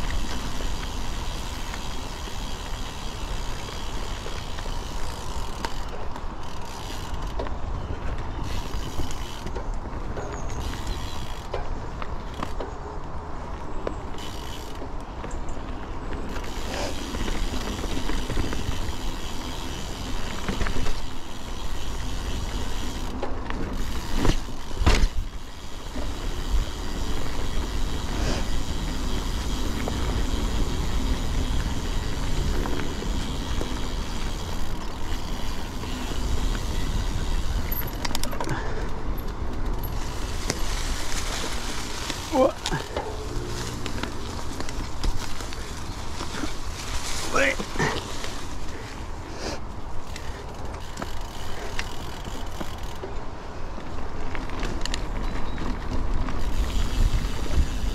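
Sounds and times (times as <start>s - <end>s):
bike rattling over rough ground: 0.0s - 57.9s.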